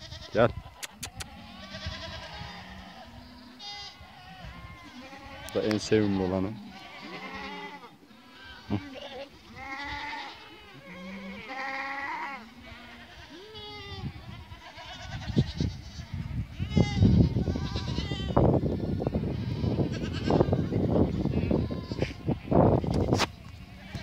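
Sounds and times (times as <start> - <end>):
goats bleating: 0.0 - 24.0.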